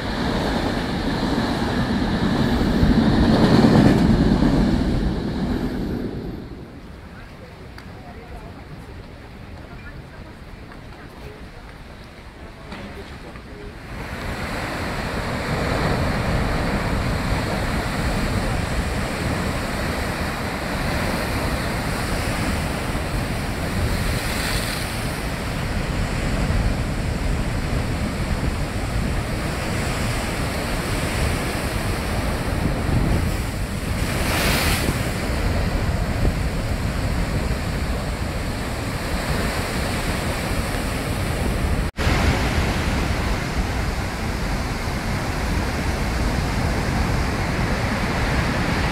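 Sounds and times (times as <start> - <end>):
surf crashing on rocks: 0.0 - 48.9
wind buffeting microphone: 0.0 - 48.9.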